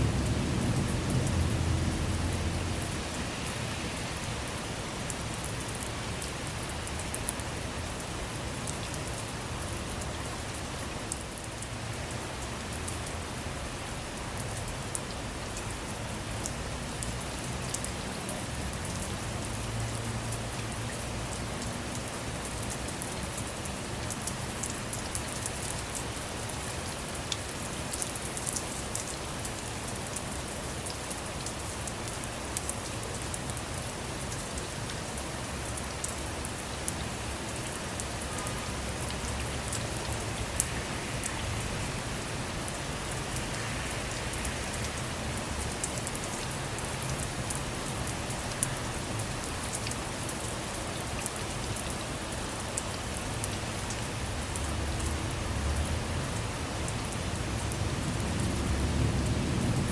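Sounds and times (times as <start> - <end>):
rain falling on a car: 0.0 - 59.9.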